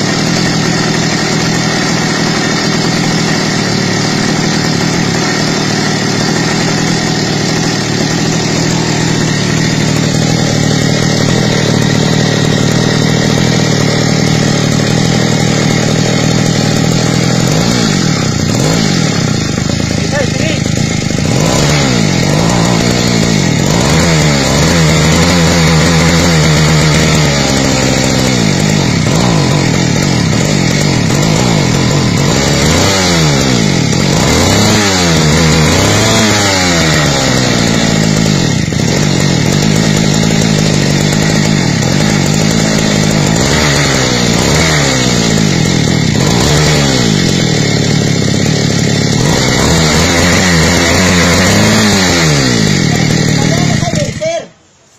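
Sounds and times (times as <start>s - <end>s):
small two-stroke engine revving: 0.0s - 54.7s.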